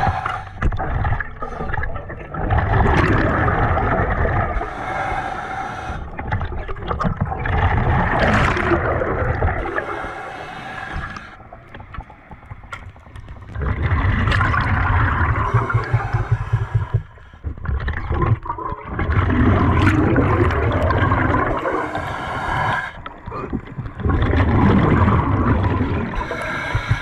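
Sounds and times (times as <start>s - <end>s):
underwater rushing and gurgling water: 0.0s - 27.0s.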